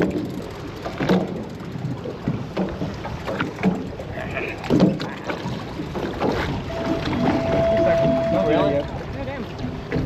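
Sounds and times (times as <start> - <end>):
knocks and splashes: 0.0 - 10.0
water noise: 0.0 - 10.0.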